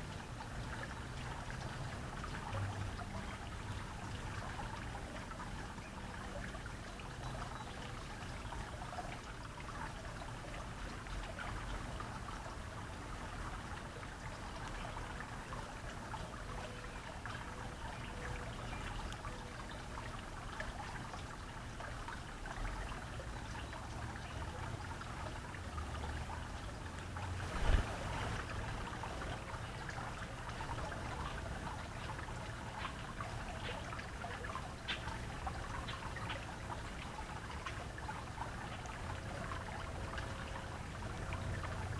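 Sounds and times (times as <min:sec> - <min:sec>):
water trickling: 0:00.0 - 0:41.9.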